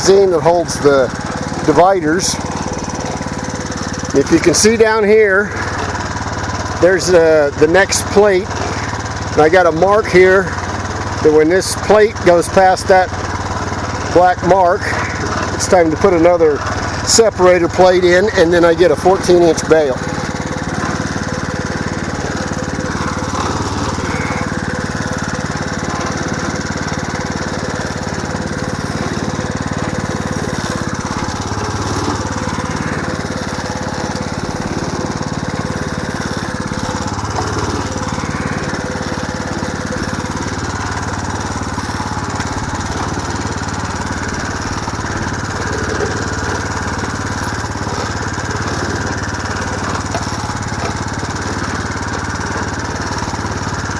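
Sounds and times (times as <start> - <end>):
hay baler plunger pressing hay: 0.0 - 53.9
small engine running under load: 0.0 - 53.9.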